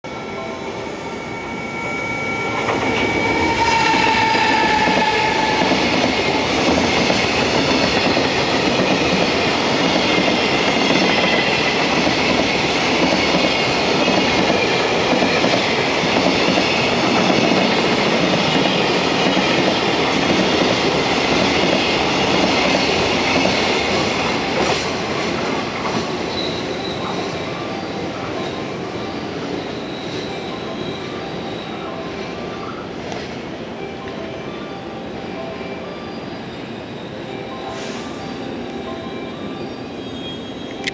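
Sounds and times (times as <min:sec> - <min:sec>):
electric locomotive whine: 0:00.0 - 0:40.9.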